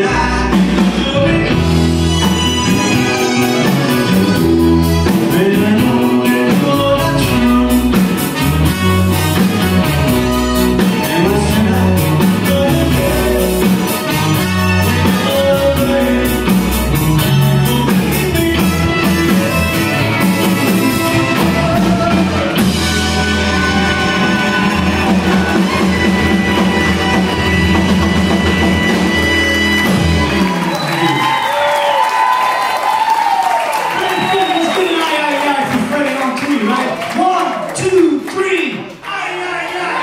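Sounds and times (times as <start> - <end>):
live country rock band: 0.0 - 37.0.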